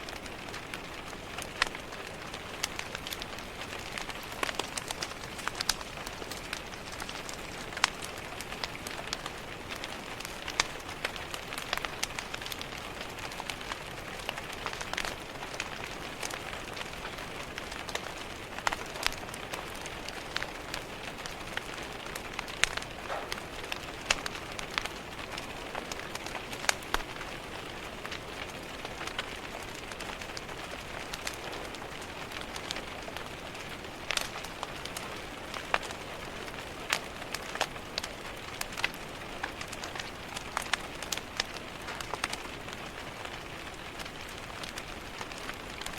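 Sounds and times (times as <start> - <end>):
rain tapping on a window: 0.0 - 45.9
wood fire crackling and popping: 0.0 - 45.9.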